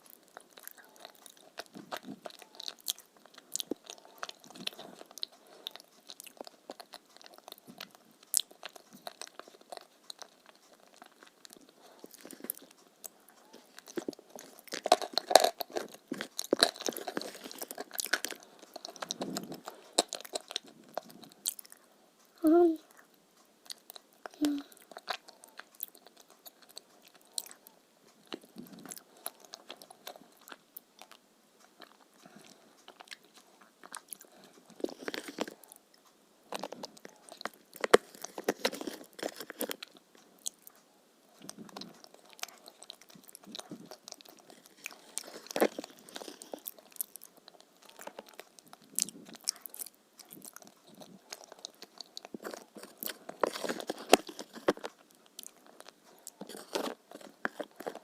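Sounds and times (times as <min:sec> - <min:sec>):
person chewing crunchy food: 0:00.0 - 0:21.9, 0:22.9 - 0:58.0.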